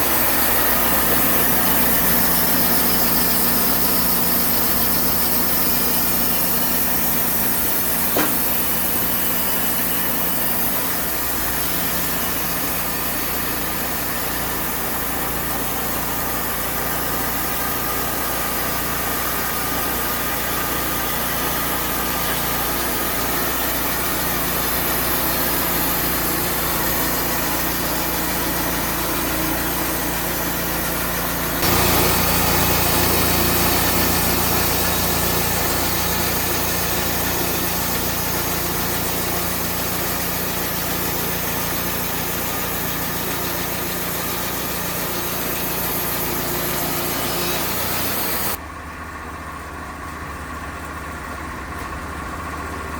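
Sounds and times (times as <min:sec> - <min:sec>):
band sawmill running: 0:00.0 - 0:52.9.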